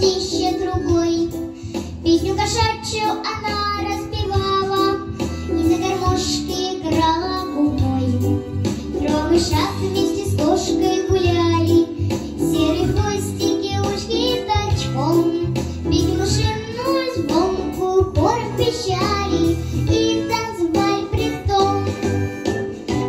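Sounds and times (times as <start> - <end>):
girl singing into microphone: 0.0 - 22.5
instrumental accompaniment: 0.0 - 23.0.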